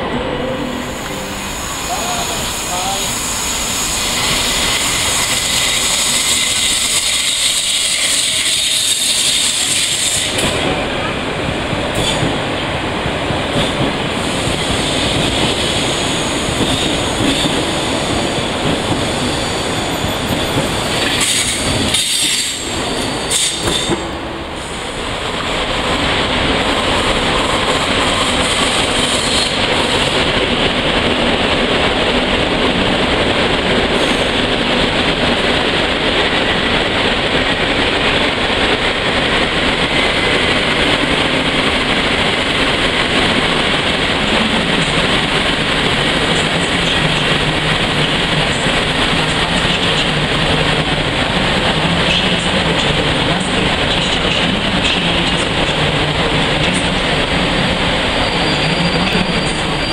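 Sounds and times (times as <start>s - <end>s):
locomotive hauling coaches: 0.0s - 31.8s, 32.6s - 59.9s
electric train running past: 0.0s - 59.9s.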